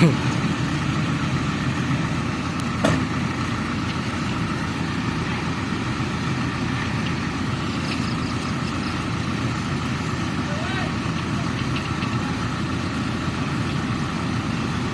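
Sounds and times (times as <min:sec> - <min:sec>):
vehicle engine running: 0:00.0 - 0:14.9.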